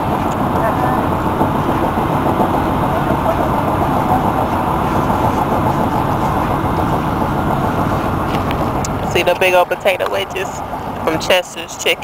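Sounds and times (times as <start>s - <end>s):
car cabin road and engine noise: 0.0s - 12.0s.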